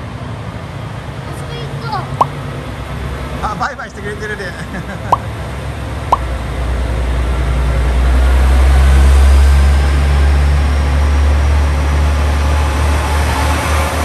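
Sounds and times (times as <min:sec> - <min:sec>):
diesel railcar engine droning: 0:00.0 - 0:14.0.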